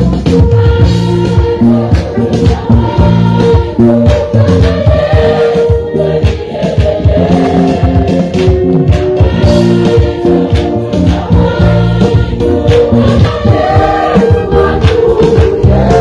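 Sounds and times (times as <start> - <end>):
choir singing a hymn: 0.0 - 16.0
regular percussive beat: 0.0 - 16.0.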